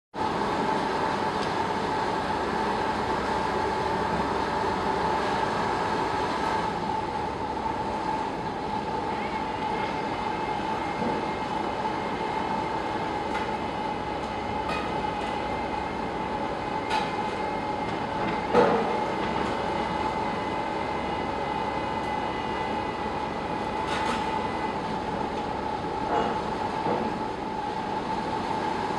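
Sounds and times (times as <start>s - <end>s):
steady mechanical whine: 0.2s - 28.9s.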